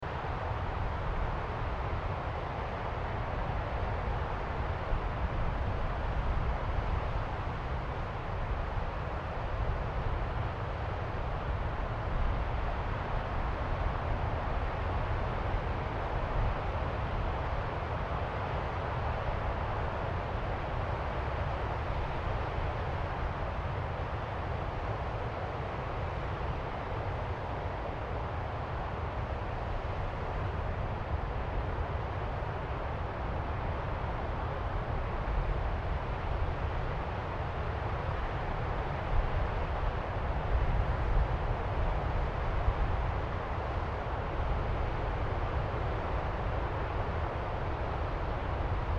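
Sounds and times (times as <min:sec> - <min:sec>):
distant ocean surf roar: 0:00.1 - 0:48.9.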